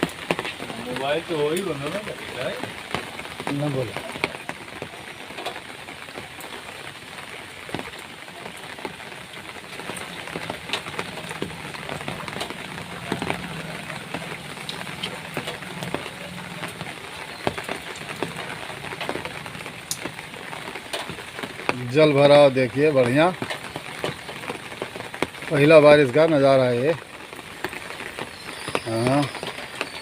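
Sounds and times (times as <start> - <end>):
rain falling: 0.0 - 30.0
raindrops striking close by: 0.0 - 30.0.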